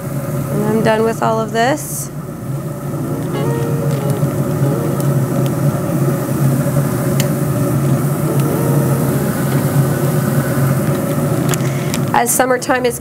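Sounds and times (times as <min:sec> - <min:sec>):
smoker fan humming: 0:00.0 - 0:12.3.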